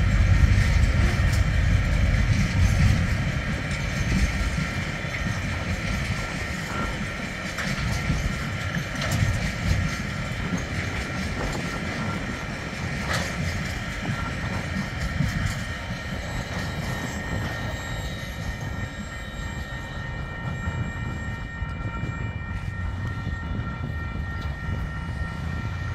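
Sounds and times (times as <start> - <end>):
high-pitched ringing tone: 0.0 - 25.9
train wheels rumbling on rails: 0.0 - 25.9.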